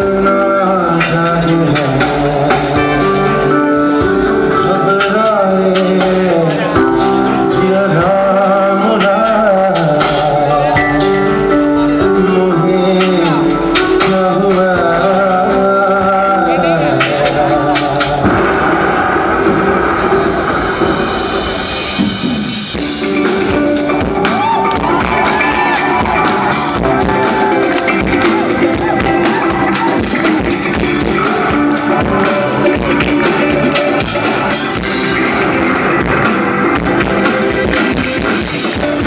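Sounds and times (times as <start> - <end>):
drum kit: 0.0 - 39.0
electric guitar: 0.0 - 39.0
live band playing: 0.0 - 39.0.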